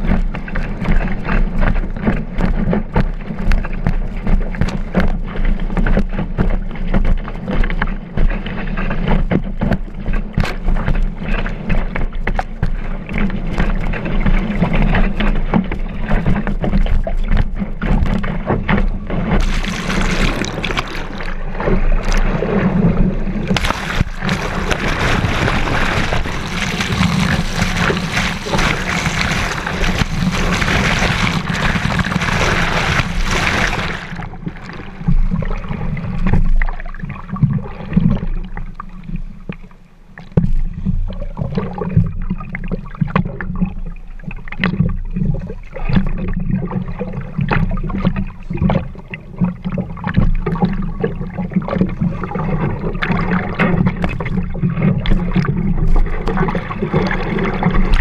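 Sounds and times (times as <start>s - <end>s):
board slapping water: 0.0s - 58.0s.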